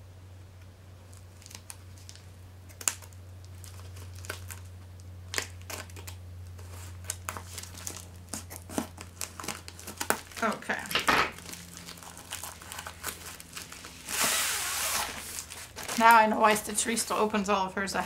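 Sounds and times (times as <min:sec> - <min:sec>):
plastic mailer crinkling: 0:01.1 - 0:17.6.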